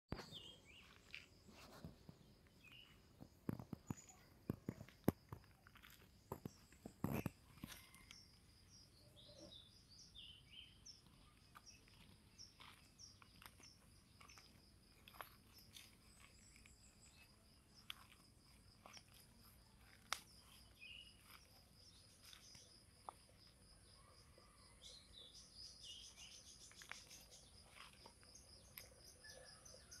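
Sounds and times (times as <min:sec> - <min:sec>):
bird chirps: 0:00.1 - 0:04.9, 0:06.4 - 0:30.0.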